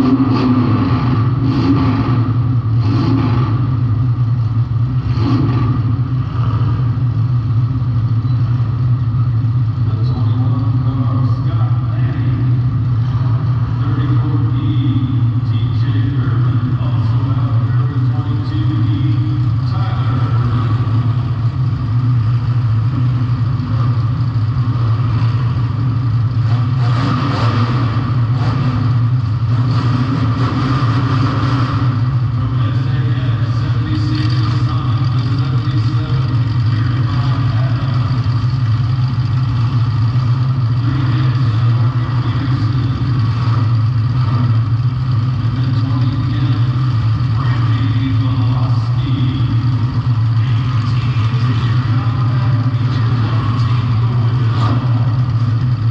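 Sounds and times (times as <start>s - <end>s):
car engine droning: 0.0s - 55.9s.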